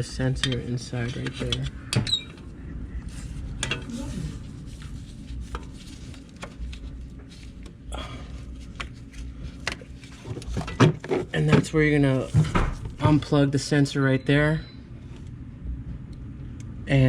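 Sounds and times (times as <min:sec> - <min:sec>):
steady low rumble: 0:00.0 - 0:10.8, 0:11.4 - 0:17.0.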